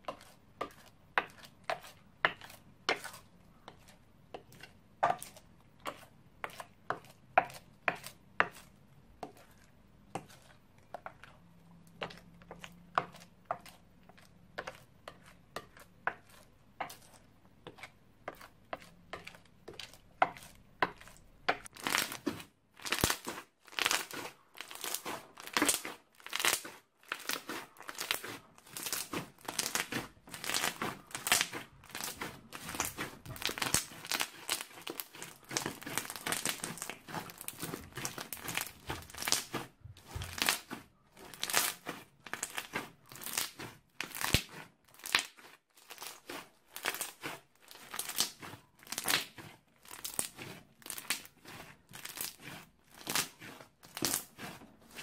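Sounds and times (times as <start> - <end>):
slime stirred with spoon: 0.0 - 55.0
crunchy slime crackling: 10.2 - 55.0.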